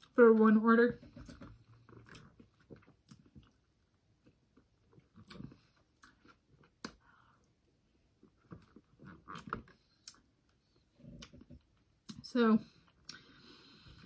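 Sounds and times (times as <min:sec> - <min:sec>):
faint chewing: 0:01.0 - 0:14.0.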